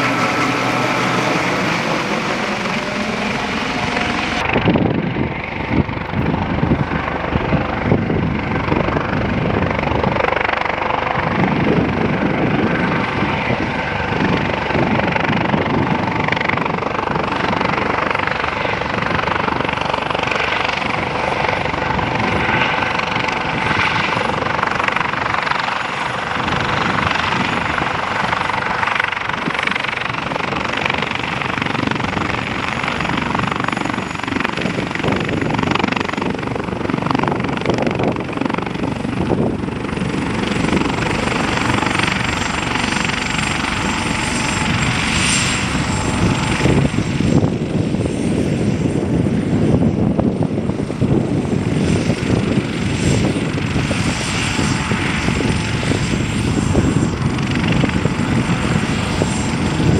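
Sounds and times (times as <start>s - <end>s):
helicopter rotors: 0.0s - 59.9s
high turbine whine: 0.0s - 59.9s.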